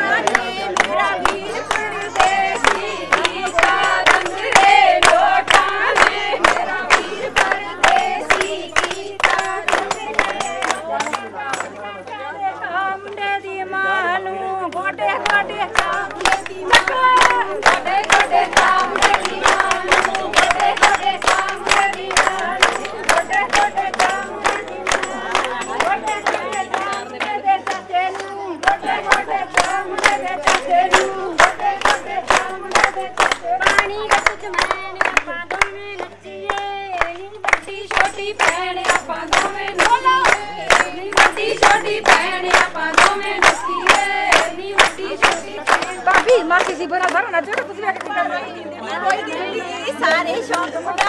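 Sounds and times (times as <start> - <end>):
rhythmic claps: 0.0 - 13.5, 14.6 - 51.0
group singing together: 0.0 - 51.0.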